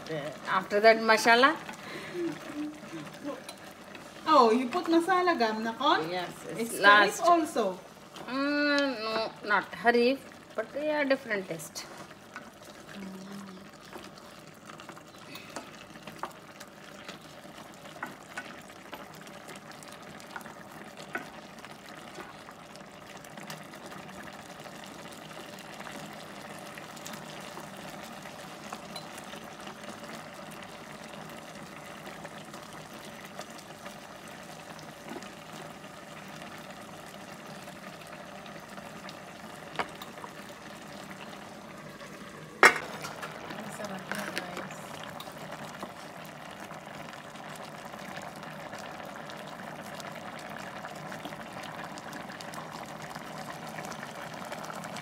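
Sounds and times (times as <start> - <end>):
curry bubbling in a pot: 0.0 - 55.0.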